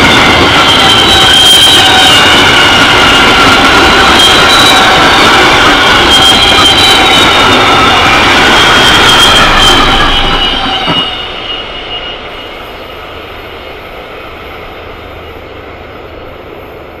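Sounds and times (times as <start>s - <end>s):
train wheels rumbling on rail: 0.0s - 17.0s
train wheels squealing: 0.0s - 17.0s.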